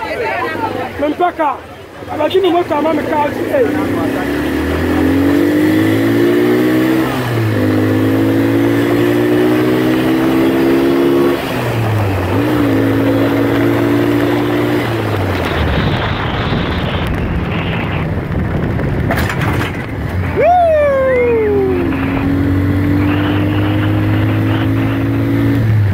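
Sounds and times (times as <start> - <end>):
wind and road noise: 0.0 - 25.9
vehicle engine accelerating: 2.1 - 25.9.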